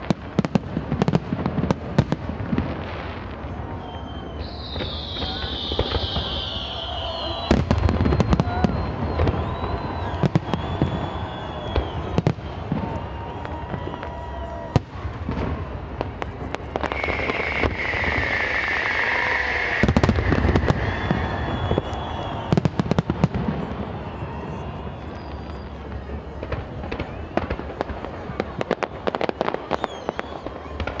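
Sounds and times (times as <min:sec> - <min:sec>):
fireworks bangs and crackling: 0:00.0 - 0:31.0
fireworks whistling: 0:00.0 - 0:31.0.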